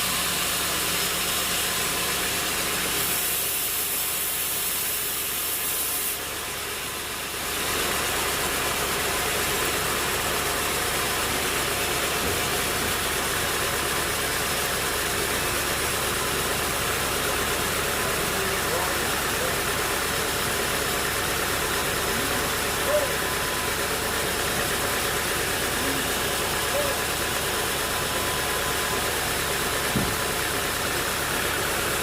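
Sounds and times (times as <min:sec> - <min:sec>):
sawmill machinery droning: 0:00.0 - 0:32.0.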